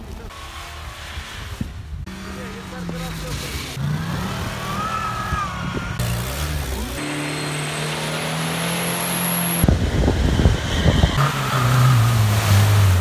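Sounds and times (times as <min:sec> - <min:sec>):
engines revving hard: 0:00.1 - 0:13.0.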